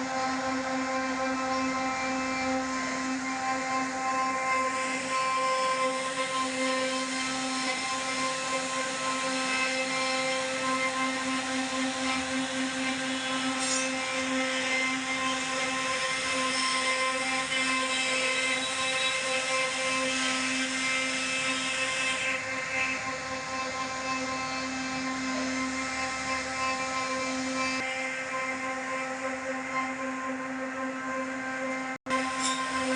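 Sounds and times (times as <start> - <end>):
bit cutting wood: 0.0 - 32.9
router spindle whine: 0.0 - 32.9.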